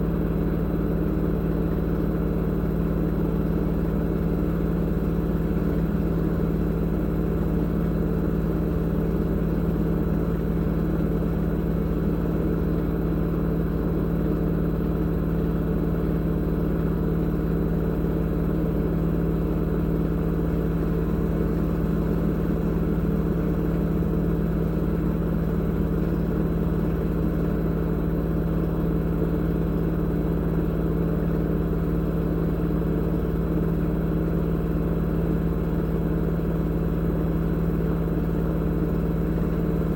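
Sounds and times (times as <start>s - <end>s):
washing machine spinning hum: 0.0s - 39.9s.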